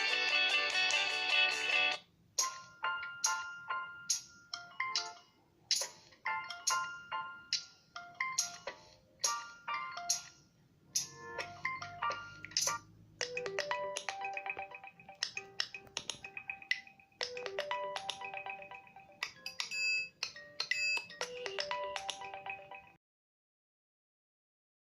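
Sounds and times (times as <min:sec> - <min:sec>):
smartphone ringtone melody: 0:00.0 - 0:05.4, 0:06.2 - 0:23.0.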